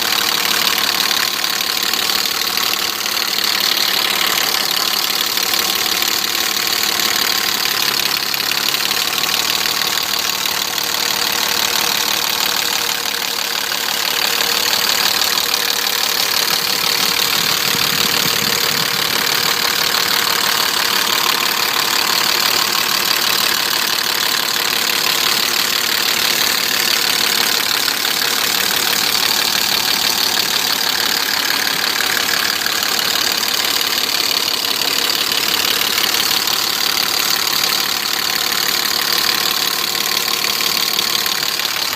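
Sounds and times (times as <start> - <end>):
car engine idling: 0.0 - 41.9
engine knocking: 0.0 - 41.9.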